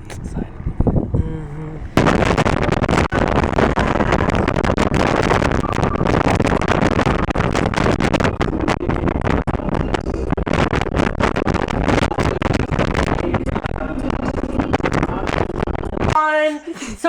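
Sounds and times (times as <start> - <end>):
wind buffeting the microphone: 0.0 - 16.2.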